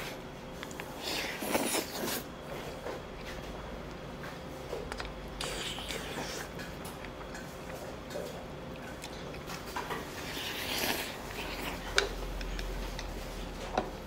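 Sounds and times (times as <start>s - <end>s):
low room hum: 0.0s - 14.0s
chewing: 0.6s - 13.9s.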